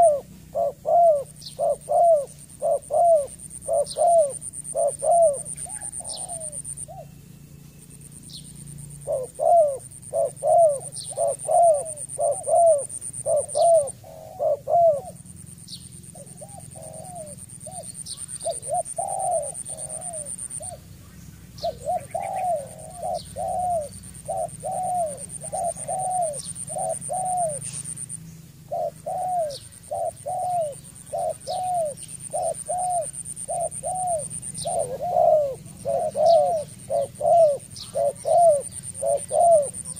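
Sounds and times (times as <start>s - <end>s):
dove cooing: 0.0s - 7.3s, 8.8s - 39.9s.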